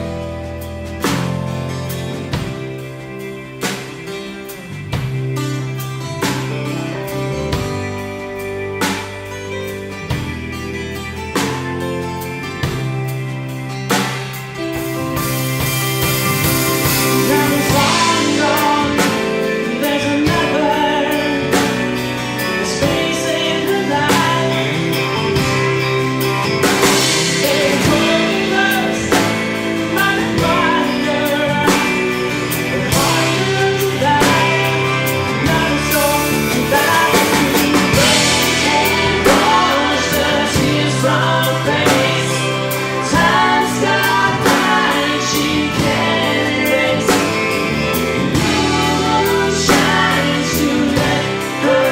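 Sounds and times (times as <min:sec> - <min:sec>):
drum kit beat: 0:00.0 - 0:51.9
live band playing: 0:00.0 - 0:51.9.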